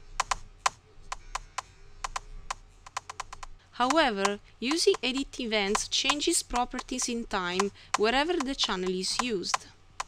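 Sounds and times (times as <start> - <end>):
keyboard and mouse clicks: 0.0 - 9.7.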